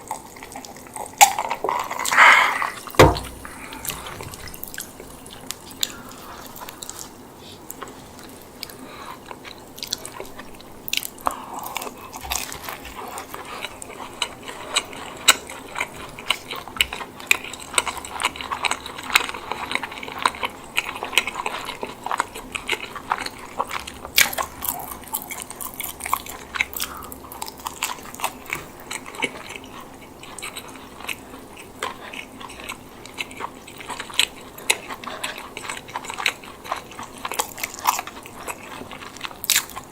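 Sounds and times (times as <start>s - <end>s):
biting and wet chewing: 0.0s - 39.9s.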